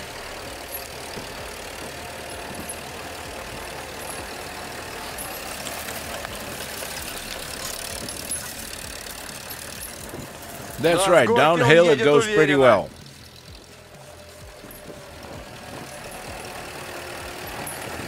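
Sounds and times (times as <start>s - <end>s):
jeep engine running: 0.0s - 18.0s.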